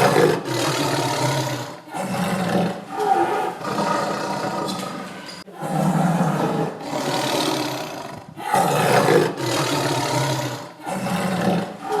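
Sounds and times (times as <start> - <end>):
tiger roaring and growling: 0.0 - 12.0.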